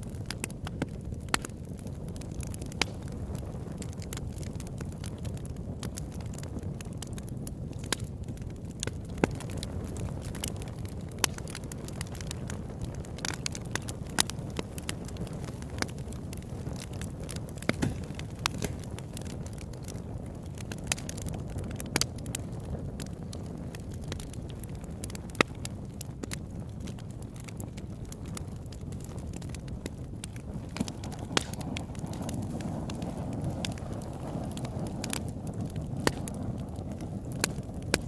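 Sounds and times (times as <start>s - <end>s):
campfire flame rumble: 0.0s - 38.0s
wood crackling and popping: 0.0s - 38.0s.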